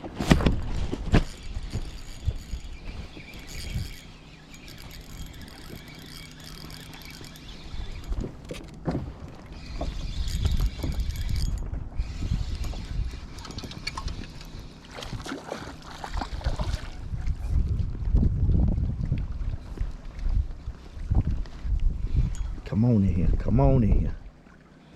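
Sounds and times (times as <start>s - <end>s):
wind buffeting microphone: 0.0s - 24.3s
choppy water: 0.0s - 24.9s.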